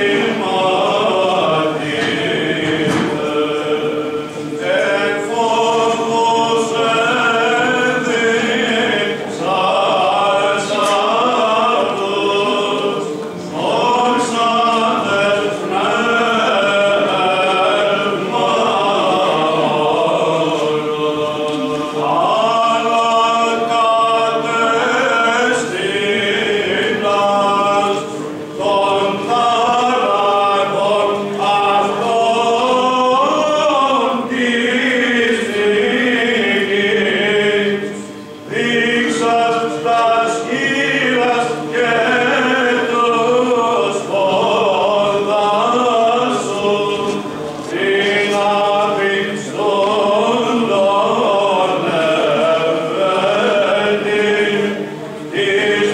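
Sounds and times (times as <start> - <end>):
men singing chant over drone: 0.0 - 55.9.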